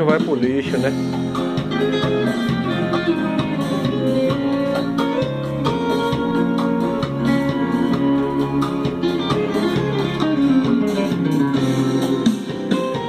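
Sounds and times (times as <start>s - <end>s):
guitar instrumental music: 0.0s - 13.0s.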